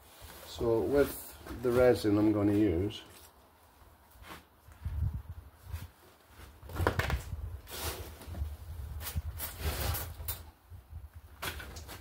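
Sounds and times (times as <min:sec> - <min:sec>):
rustling and handling noises: 0:00.0 - 0:10.4.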